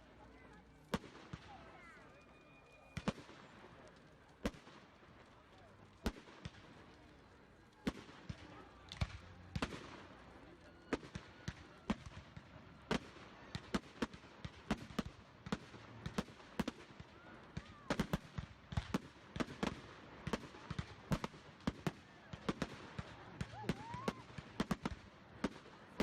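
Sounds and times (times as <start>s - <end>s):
fireworks banging: 0.7s - 26.0s.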